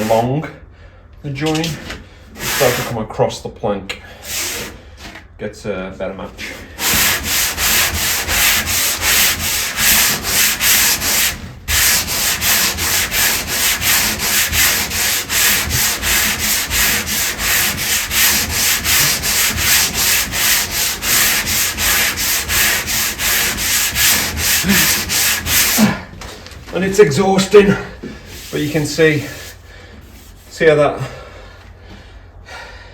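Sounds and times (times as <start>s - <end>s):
hand sanding wood: 0.0s - 0.3s, 1.3s - 3.1s, 4.2s - 5.2s, 6.4s - 26.1s, 26.7s - 31.2s.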